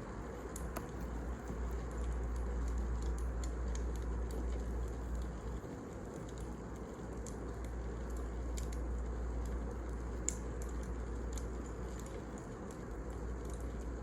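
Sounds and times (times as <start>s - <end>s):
fire rumbling: 0.0s - 14.0s
fire crackling and popping: 0.1s - 14.0s.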